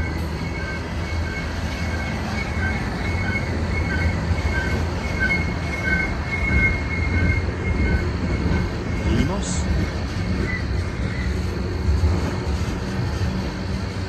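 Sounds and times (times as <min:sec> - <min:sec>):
high-pitched wheel squeal: 0:00.0 - 0:14.0
train cars rumbling past: 0:00.0 - 0:14.0.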